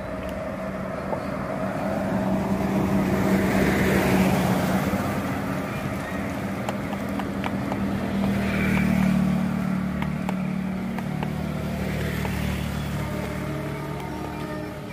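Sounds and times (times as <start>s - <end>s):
bus engine humming: 0.0s - 14.9s.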